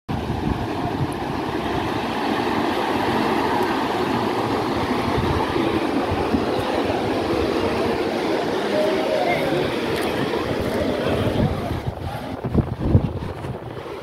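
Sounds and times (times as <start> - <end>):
wind buffeting the microphone: 0.1 - 8.7, 9.3 - 14.0
breaking surf: 0.1 - 14.0.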